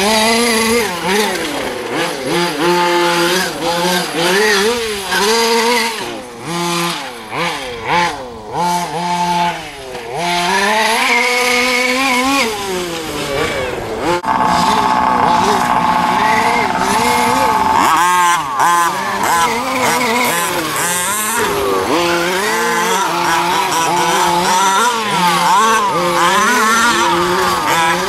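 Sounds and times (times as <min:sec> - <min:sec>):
small two-stroke engine revving: 0:00.0 - 0:28.0.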